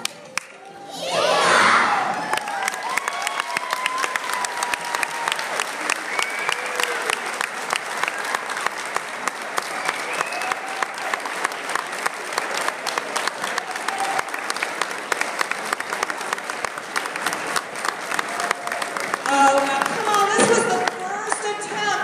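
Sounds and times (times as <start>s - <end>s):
audience applauding: 1.9s - 21.7s.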